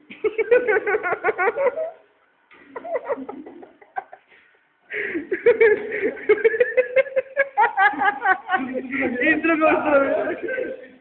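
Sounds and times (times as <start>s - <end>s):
men laughing: 0.1s - 2.0s, 2.6s - 11.0s.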